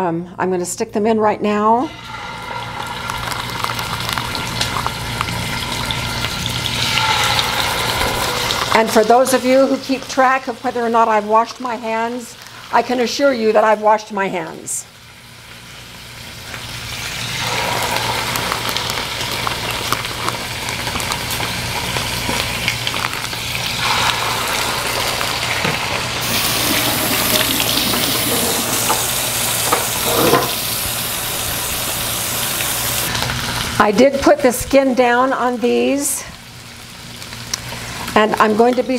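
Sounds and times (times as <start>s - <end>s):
chicken sizzling in a skillet: 1.9s - 13.6s, 14.8s - 38.9s.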